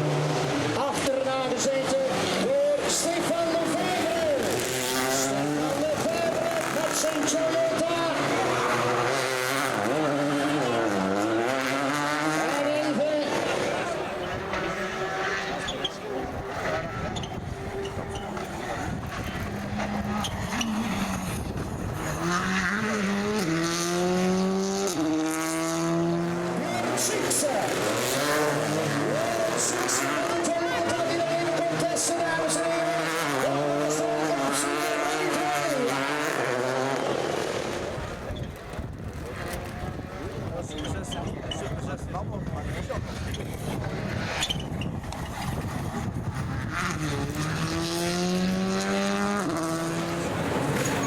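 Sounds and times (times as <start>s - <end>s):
rally car engine accelerating: 0.0s - 51.0s.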